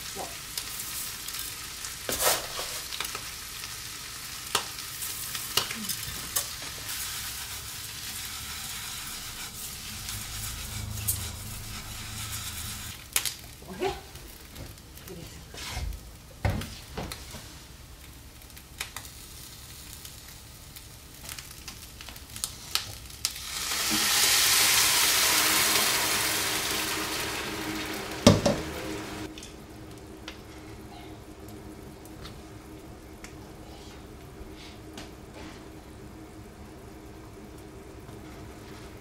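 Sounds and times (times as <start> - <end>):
hissing sizzle in frying pan: 0.0 - 39.0
steady simmer: 0.0 - 39.0.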